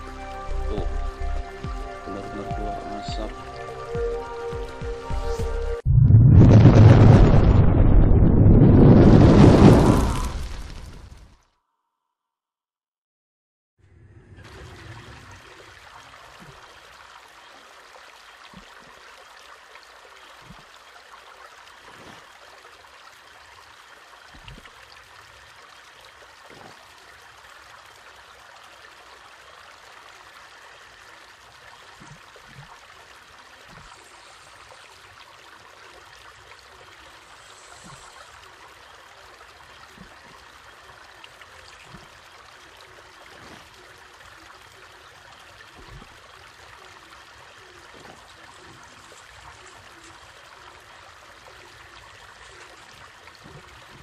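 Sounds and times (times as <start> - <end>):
water trickling in a channel: 0.0 - 5.8, 14.4 - 54.0.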